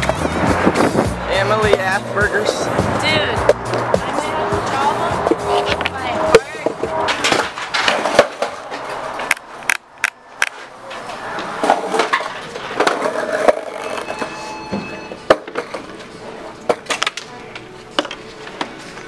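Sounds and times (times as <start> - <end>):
skateboards knocking and clattering: 0.0 - 2.8, 3.4 - 19.0.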